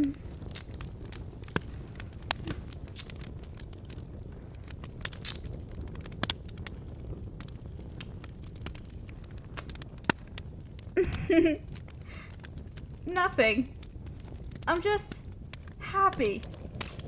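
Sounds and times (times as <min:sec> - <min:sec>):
fire crackling: 0:00.0 - 0:17.0
fire popping and snapping: 0:00.0 - 0:17.0.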